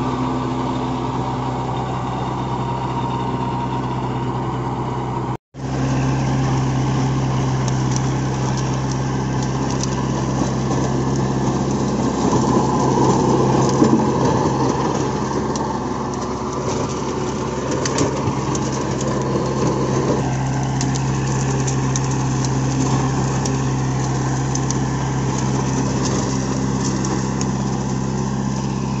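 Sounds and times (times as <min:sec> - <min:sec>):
tractor diesel engine running: 0:00.0 - 0:29.0
crackles: 0:05.6 - 0:29.0
rotavator churning soil: 0:05.6 - 0:29.0.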